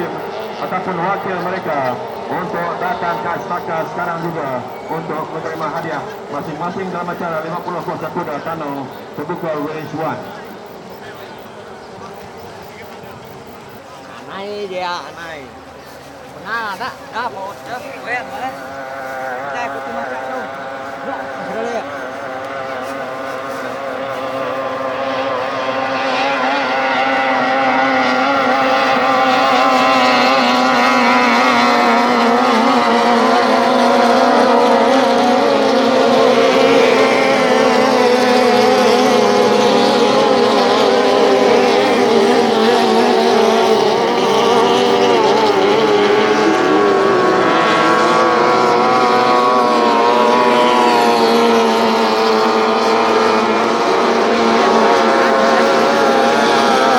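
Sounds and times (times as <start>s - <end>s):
outboard boat engines racing: 0.0s - 56.9s.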